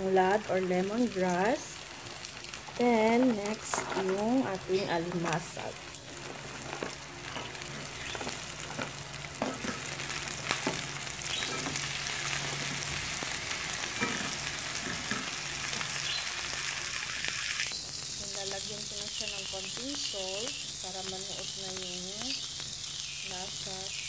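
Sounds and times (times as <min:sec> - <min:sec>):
oil sizzling in a wok: 0:00.0 - 0:24.0.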